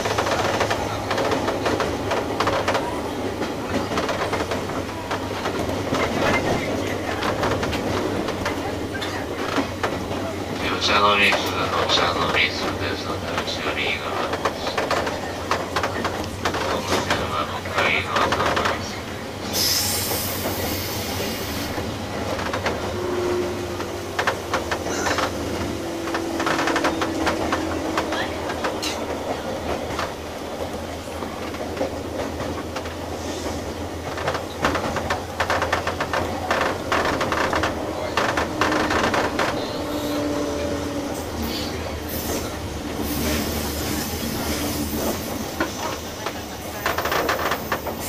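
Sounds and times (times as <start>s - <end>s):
train rumble: 0.0s - 48.0s
wheels clicking over rail joints: 0.0s - 48.0s.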